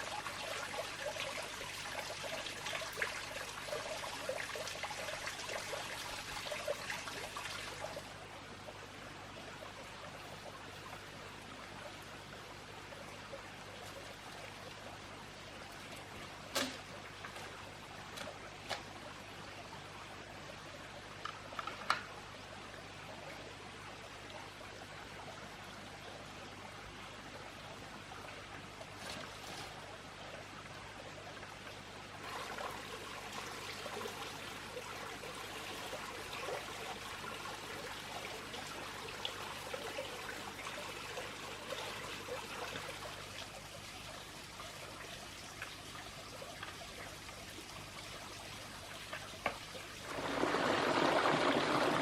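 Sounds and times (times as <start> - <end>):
running water trickling: 0.0 - 52.0.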